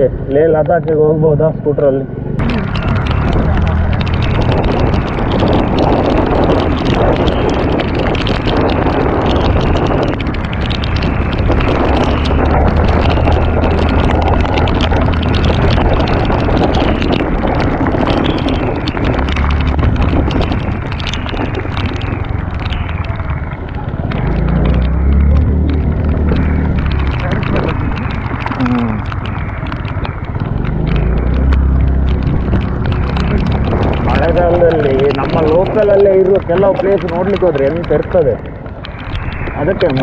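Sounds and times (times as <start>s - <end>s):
tyres on wet road: 0.0s - 40.0s
wind on microphone: 2.0s - 40.0s
scooter engine: 2.1s - 40.0s
heavy rain: 2.4s - 40.0s.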